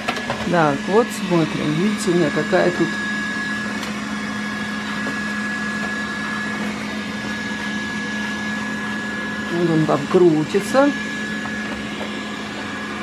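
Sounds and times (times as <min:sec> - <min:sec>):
robot vacuum cleaner running: 0:00.0 - 0:13.0.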